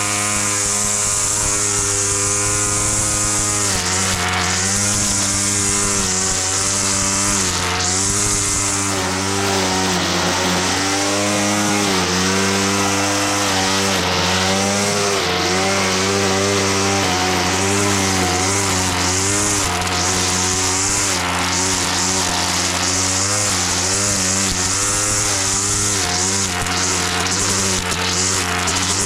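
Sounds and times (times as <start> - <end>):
lawnmower engine cutting grass: 0.0 - 29.0.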